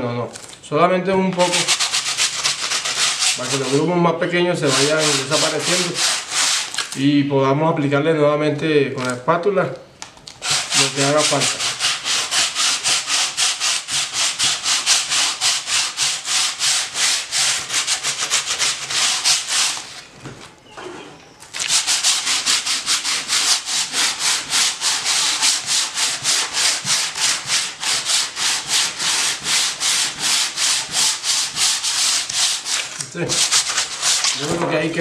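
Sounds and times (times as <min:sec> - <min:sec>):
sandpaper rubbing back and forth: 0:01.4 - 0:06.8, 0:10.4 - 0:20.0, 0:21.7 - 0:34.7.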